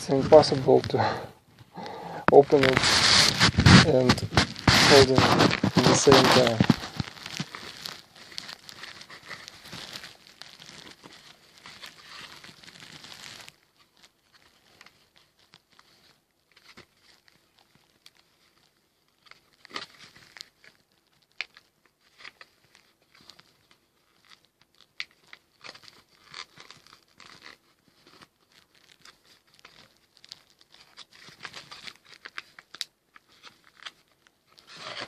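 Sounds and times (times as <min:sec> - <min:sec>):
plastic packaging crinkling: 0:00.0 - 0:35.0.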